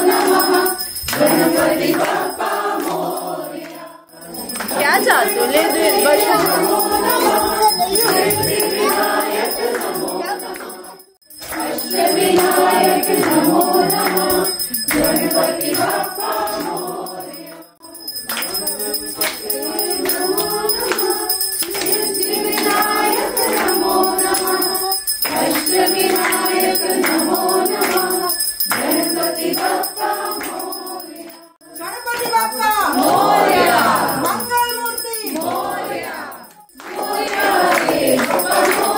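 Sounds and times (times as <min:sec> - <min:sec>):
bell ringing: 0:00.0 - 0:38.9
group devotional singing: 0:00.0 - 0:38.9.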